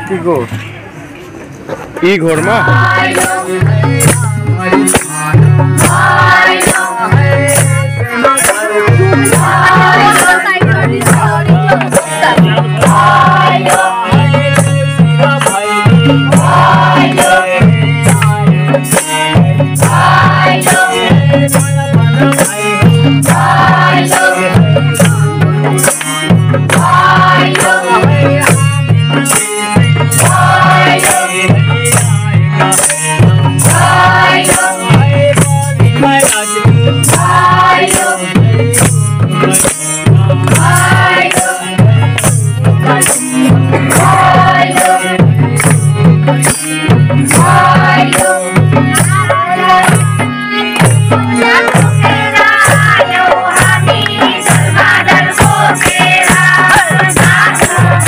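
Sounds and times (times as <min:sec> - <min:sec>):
group singing in chorus: 0:02.4 - 0:58.0
hand drum beating: 0:02.7 - 0:58.0.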